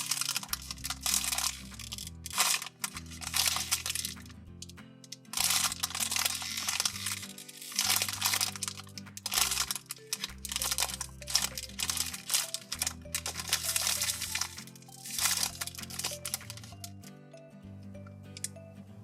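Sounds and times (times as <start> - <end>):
squishy toy crinkling and crunching: 0.0 - 4.3, 5.2 - 16.9
soft background music: 0.0 - 19.0.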